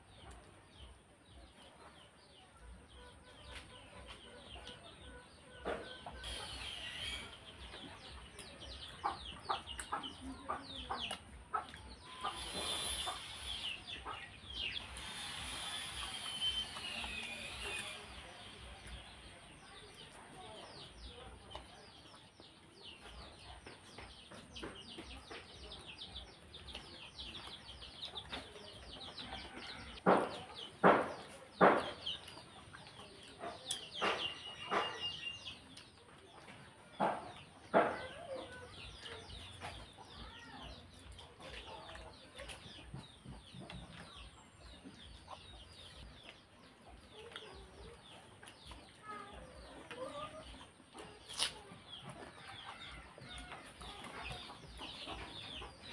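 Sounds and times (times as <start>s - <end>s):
chickens clucking: 0.0s - 55.9s
small birds chirping: 0.0s - 55.9s.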